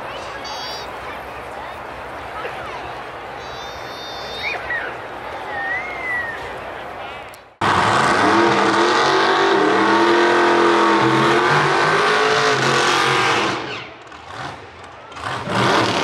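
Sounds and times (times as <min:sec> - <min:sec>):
race car engines revving: 0:00.8 - 0:16.0.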